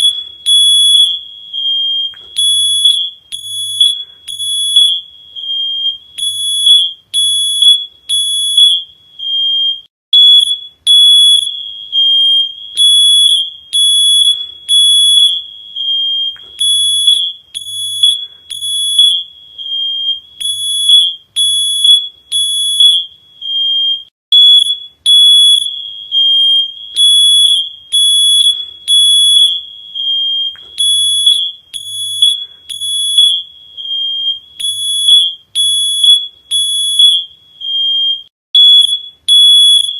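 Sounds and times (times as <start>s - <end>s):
electronic alarm beeping: 0.0s - 39.9s.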